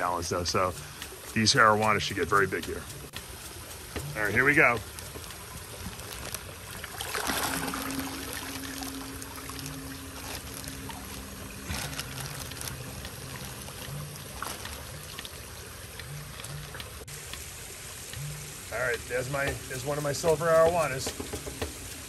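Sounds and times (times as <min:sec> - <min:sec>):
light rain on water: 0:00.0 - 0:22.0
water trickling and splashing: 0:00.0 - 0:22.0.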